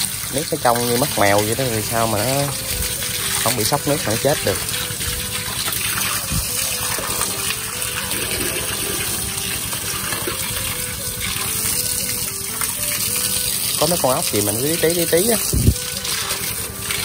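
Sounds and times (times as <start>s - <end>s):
hose spraying water into tank: 0.0s - 17.0s.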